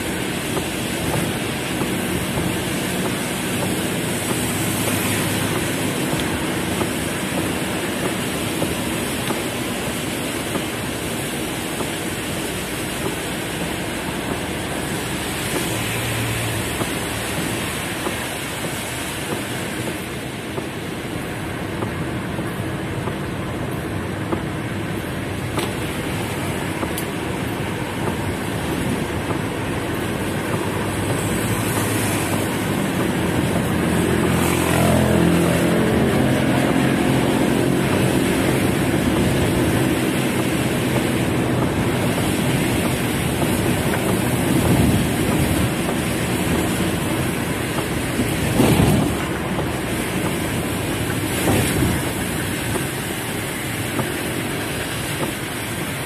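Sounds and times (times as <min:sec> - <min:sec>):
heavy rain on car roof: 0:00.0 - 0:56.0.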